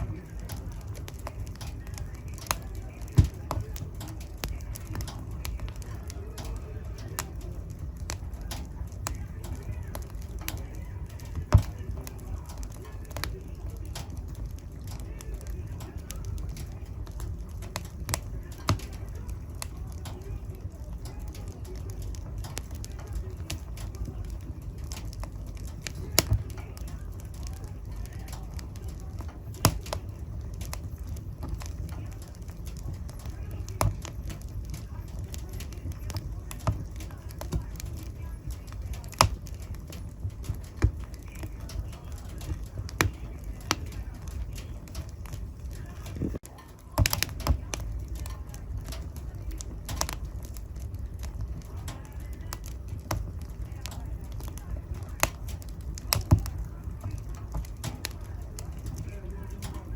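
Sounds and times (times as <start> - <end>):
low rumble of flames: 0.0 - 59.9
sharp pops of fire: 0.0 - 59.9
wood fire crackling: 0.0 - 59.9.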